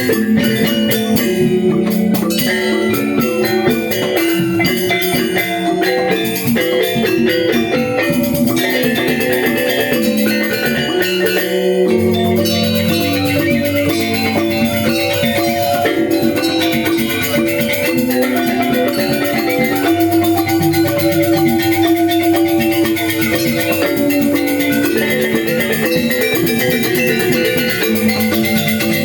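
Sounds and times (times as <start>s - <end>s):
gamelan ensemble playing: 0.0s - 29.0s.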